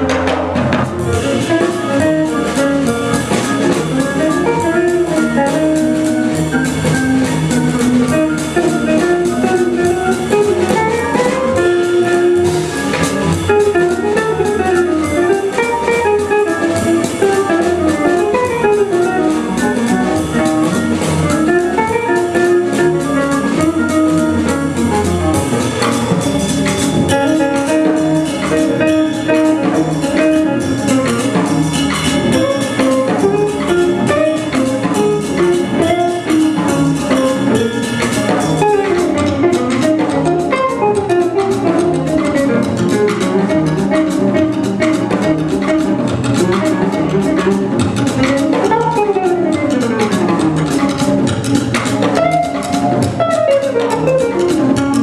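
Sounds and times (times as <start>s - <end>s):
jazz organ trio playing: 0.0s - 55.0s.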